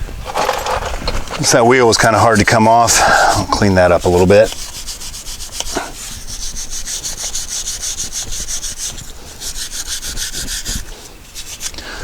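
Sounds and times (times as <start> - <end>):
hand scrubbing metal surface: 0.2 - 11.9.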